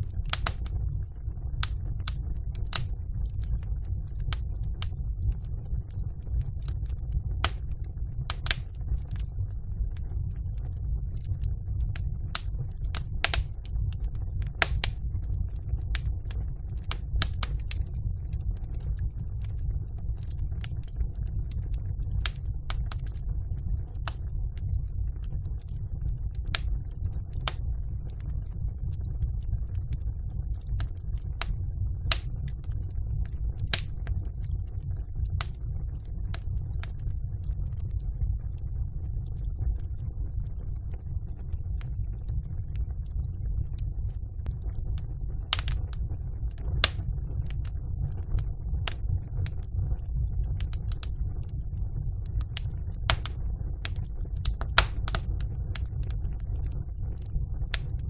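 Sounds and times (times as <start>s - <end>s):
fire crackling and popping: 0.0s - 58.0s
fire low rumble: 0.0s - 58.0s.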